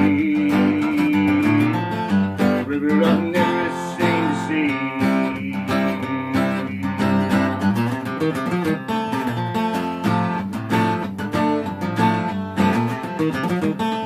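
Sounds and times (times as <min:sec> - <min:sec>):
acoustic guitar strumming: 0:00.0 - 0:14.0
person singing country ballad: 0:00.0 - 0:14.0.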